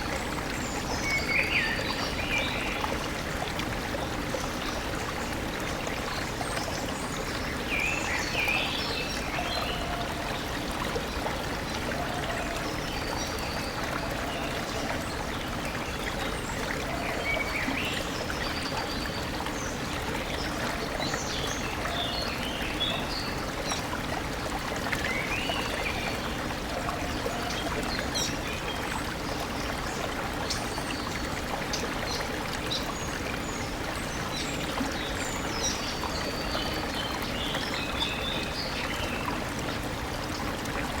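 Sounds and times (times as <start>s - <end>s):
stream running: 0.0s - 41.0s.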